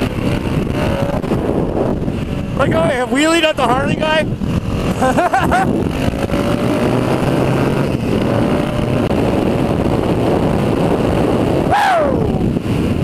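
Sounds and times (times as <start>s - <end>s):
motorcycle engine running: 0.0s - 13.0s
rushing air: 0.0s - 13.0s.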